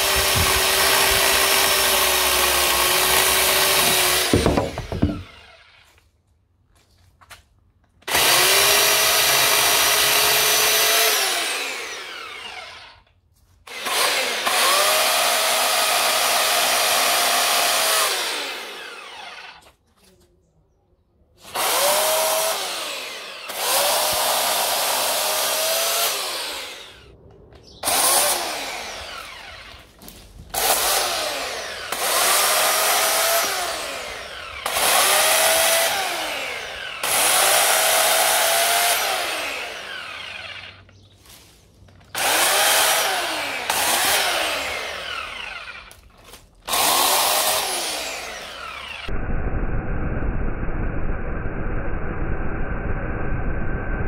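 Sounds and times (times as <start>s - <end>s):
electric chainsaw cutting branches: 0.0s - 6.0s, 8.0s - 19.8s, 21.4s - 27.1s, 27.8s - 41.0s, 42.0s - 49.1s.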